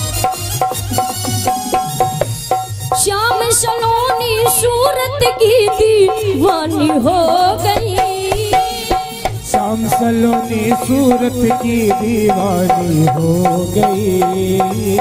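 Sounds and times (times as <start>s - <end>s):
hand drum rhythm: 0.0s - 15.0s
wavering melody line: 0.0s - 15.0s
person singing: 3.0s - 15.0s.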